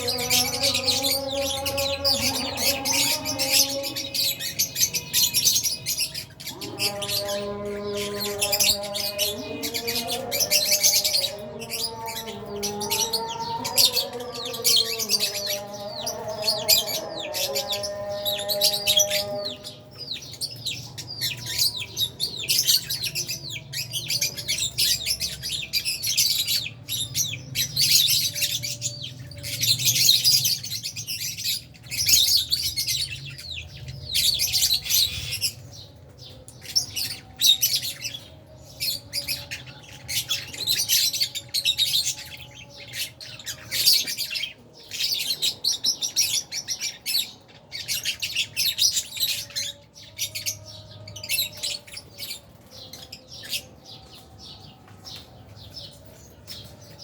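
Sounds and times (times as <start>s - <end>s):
lovebirds chattering: 0.0s - 57.0s.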